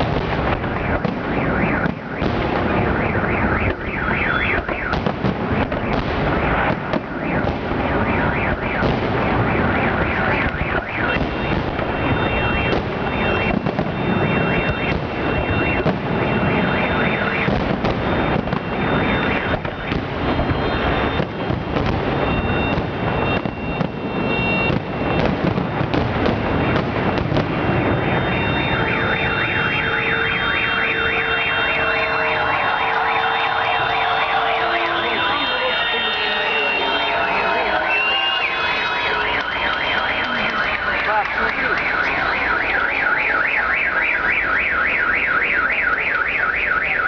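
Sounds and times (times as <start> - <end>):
car alarms: 0.0 - 47.0
fireworks bursting: 0.0 - 47.0.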